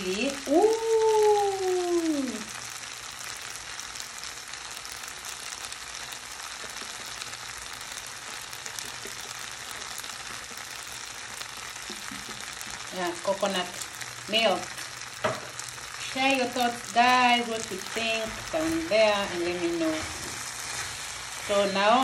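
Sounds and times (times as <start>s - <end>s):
pasta sizzling in frying pan: 0.0s - 22.0s.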